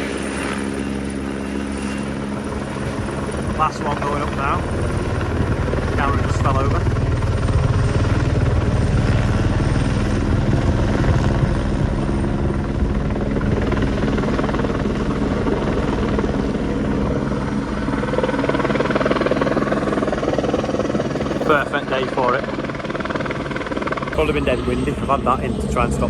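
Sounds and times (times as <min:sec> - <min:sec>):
helicopter rotor beating: 0:00.0 - 0:26.0
helicopter turbine noise: 0:00.0 - 0:26.0.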